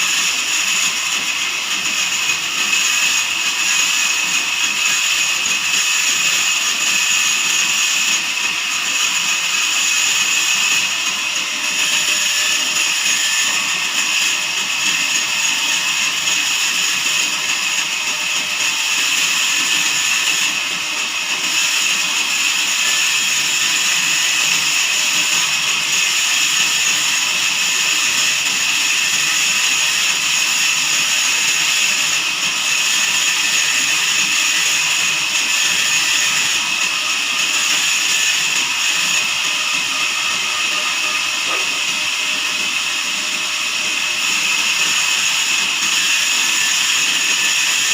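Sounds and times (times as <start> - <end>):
band sawmill whining: 0.0 - 47.9.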